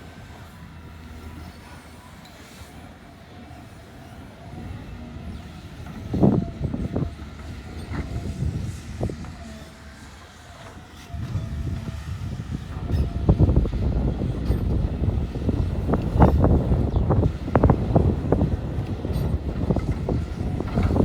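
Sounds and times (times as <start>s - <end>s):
construction machinery rumbling: 0.0s - 21.0s.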